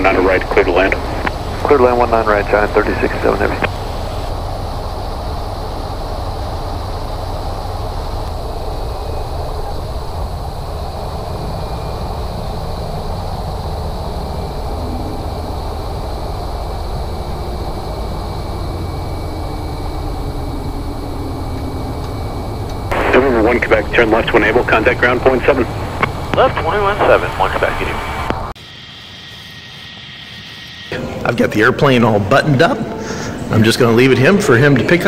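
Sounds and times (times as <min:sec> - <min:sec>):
faint thin whine: 0:00.0 - 0:28.5
rushing airflow: 0:00.0 - 0:28.6
turboprop engine cabin drone: 0:00.0 - 0:28.6.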